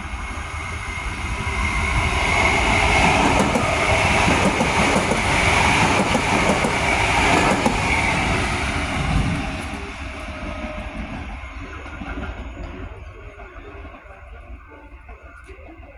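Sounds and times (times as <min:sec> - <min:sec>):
train wheels rumbling: 0:00.0 - 0:15.9.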